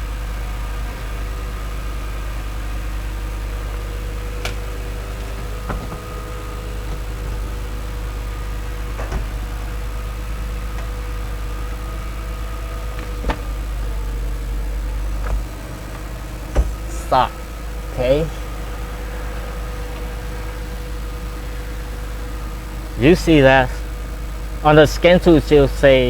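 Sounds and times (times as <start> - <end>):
car mechanical hum: 0.0 - 26.0.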